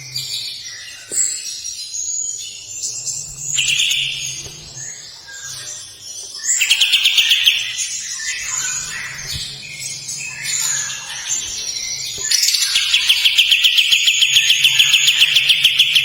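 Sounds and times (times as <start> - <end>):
bird singing chirping phrases: 0.0 - 16.0.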